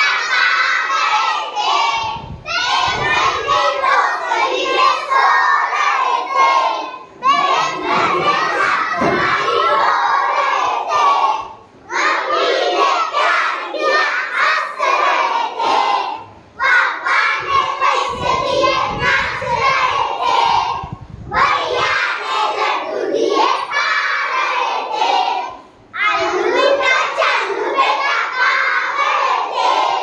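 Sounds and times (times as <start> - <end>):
children chanting a nursery rhyme: 0.0 - 30.0.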